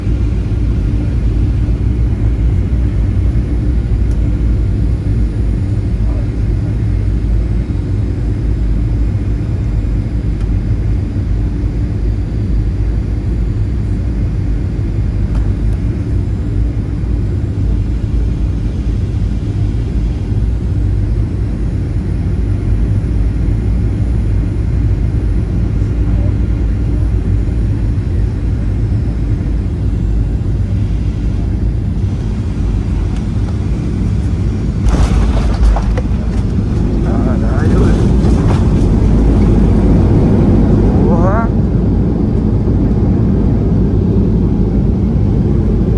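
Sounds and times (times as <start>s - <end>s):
airliner rumble: 0.0s - 45.9s
faint constant hum: 0.0s - 45.9s.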